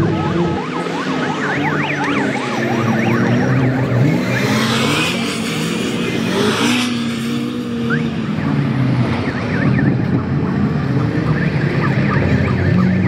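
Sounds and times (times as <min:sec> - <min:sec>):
racing buggy engines revving: 0:00.0 - 0:13.0.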